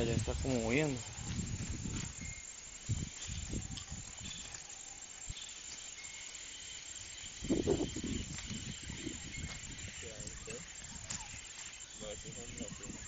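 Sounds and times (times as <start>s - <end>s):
faint high chirps: 0.0s - 13.0s
steady hiss: 0.0s - 13.0s.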